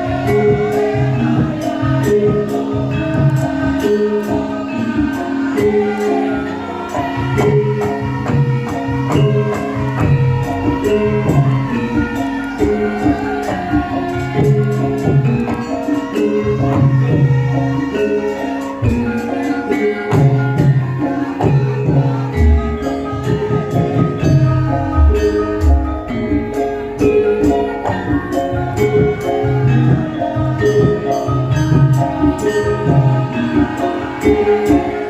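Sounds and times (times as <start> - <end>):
steady percussion beat: 0.0 - 35.0.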